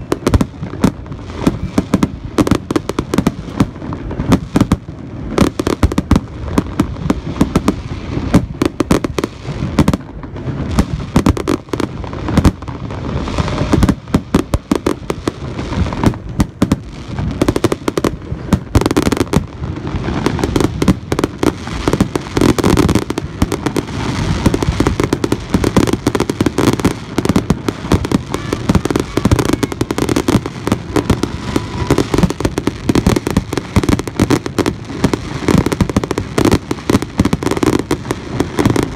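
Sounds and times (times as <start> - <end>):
fireworks booming: 0.0 - 38.9.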